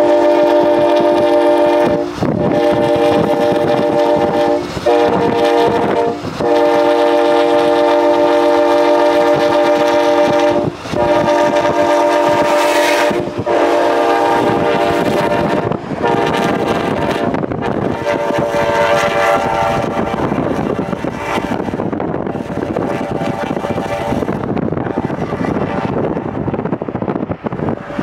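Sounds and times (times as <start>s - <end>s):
locomotive air horn blasts: 0.0s - 24.4s, 25.0s - 26.1s
passing train: 0.0s - 28.0s.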